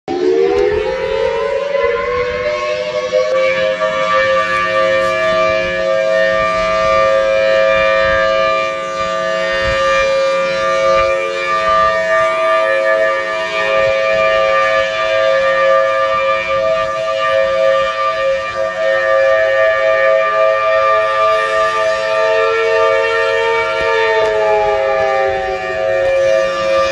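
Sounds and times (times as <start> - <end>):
warning siren wailing: 0.1 - 26.9.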